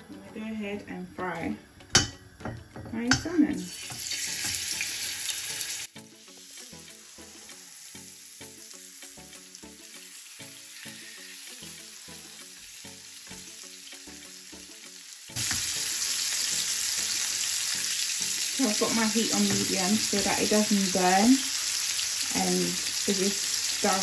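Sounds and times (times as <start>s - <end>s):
soft background music: 0.0s - 24.0s
fish sizzling in hot oil: 1.3s - 24.0s.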